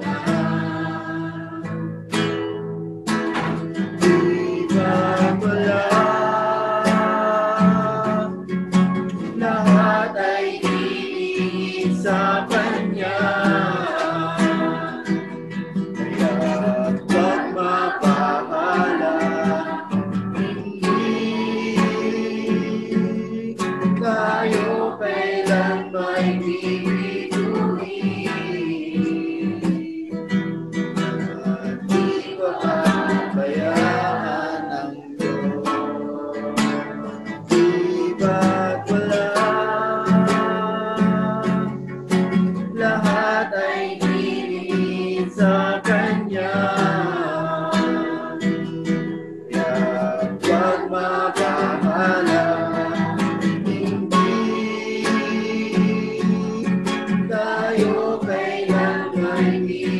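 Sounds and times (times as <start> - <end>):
person singing: 0.0 - 2.3, 3.4 - 59.9
strummed acoustic guitar: 0.0 - 59.9.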